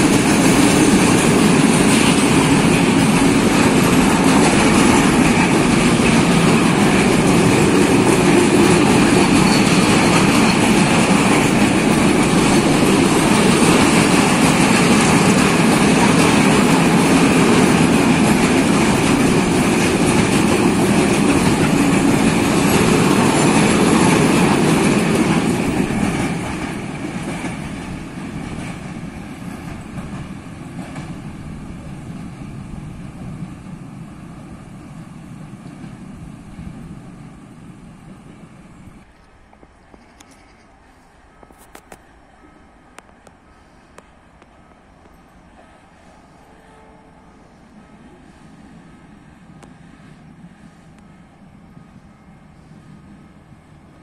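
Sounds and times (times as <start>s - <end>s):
freight train rumbling past: 0.0s - 39.2s, 42.0s - 54.0s.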